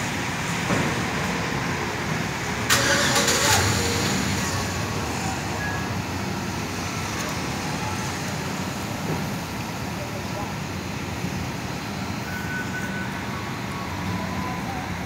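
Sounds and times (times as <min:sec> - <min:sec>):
rumble of vehicles: 0:00.0 - 0:15.0.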